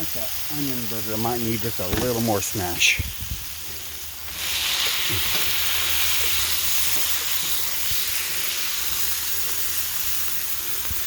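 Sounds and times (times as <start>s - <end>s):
burgers and onions sizzling: 0.0s - 11.0s.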